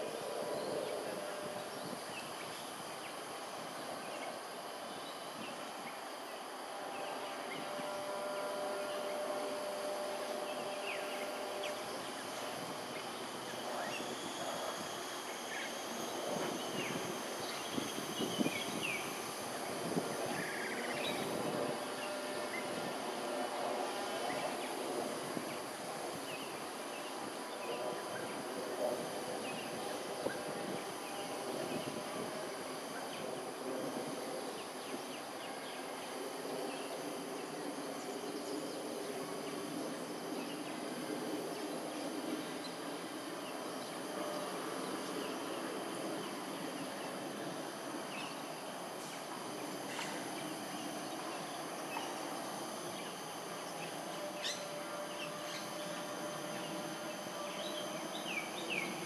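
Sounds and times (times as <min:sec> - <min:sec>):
high insect drone: 0:00.0 - 0:59.0
low continuous hum: 0:00.0 - 0:59.0.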